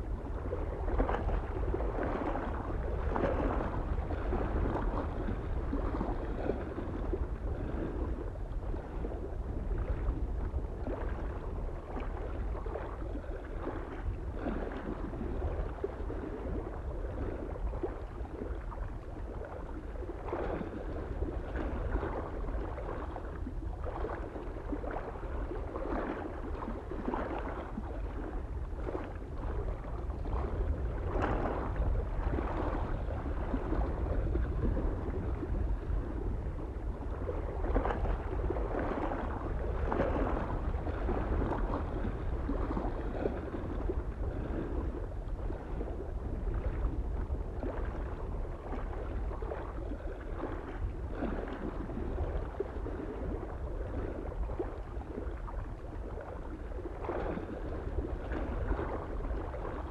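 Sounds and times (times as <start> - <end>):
low wind rumble: 0.0 - 59.9
small waves lapping on shore: 0.0 - 59.9.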